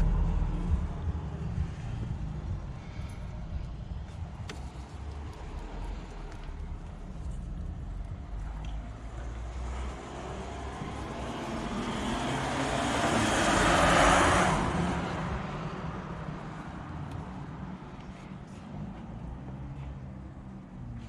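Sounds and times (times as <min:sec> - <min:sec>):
vehicle passing by: 0:00.0 - 0:21.0.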